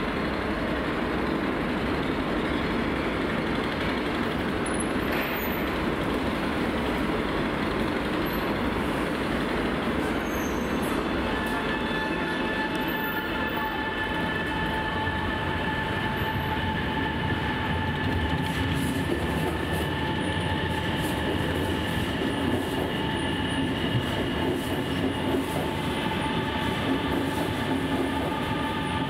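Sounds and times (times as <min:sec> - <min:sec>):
electric train whine: 0:00.0 - 0:29.0
train wheels rumbling on rails: 0:00.0 - 0:29.0.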